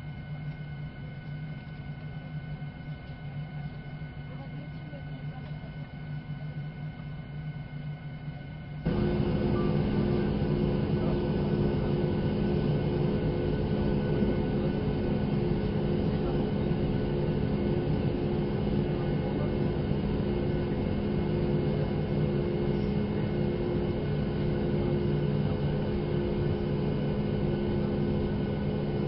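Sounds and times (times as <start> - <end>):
airplane cabin engine hum: 0.0 - 29.0.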